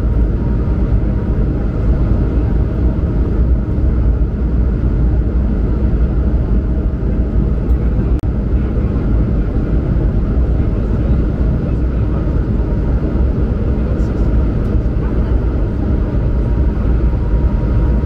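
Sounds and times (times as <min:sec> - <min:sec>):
aircraft cabin engine rumble: 0:00.0 - 0:18.0.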